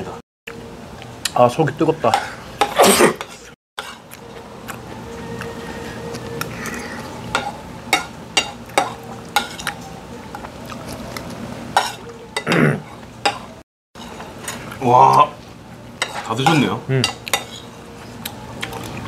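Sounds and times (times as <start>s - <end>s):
restaurant hum: 0.0s - 19.0s
utensils clinking against a bowl: 2.0s - 15.2s, 16.0s - 19.0s.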